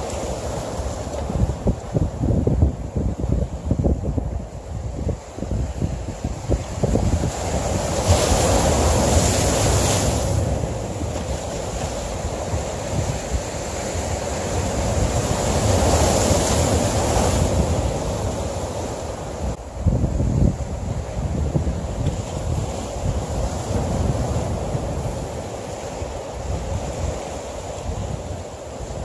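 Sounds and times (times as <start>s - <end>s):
sea waves breaking on rocks: 0.0s - 4.0s, 5.1s - 29.0s
wind rumbling on microphone: 0.0s - 29.0s.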